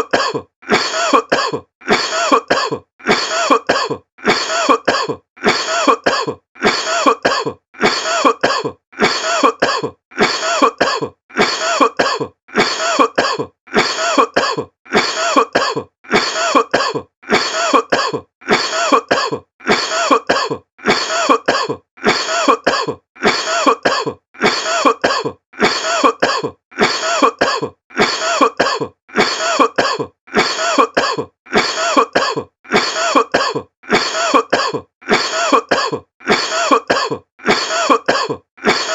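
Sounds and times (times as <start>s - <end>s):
person coughing: 0.0s - 38.9s.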